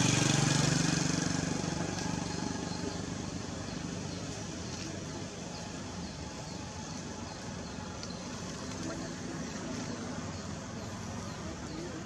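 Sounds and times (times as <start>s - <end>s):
motor engine: 0.0s - 12.0s
outdoor background noise: 0.0s - 12.0s.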